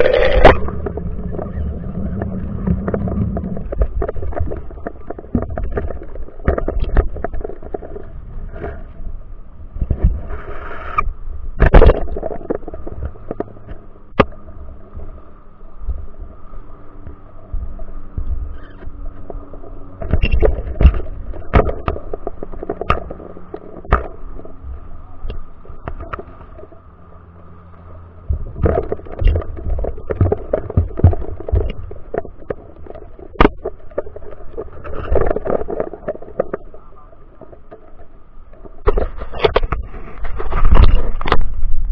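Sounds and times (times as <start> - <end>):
underwater rumble of moving water: 0.0 - 41.9.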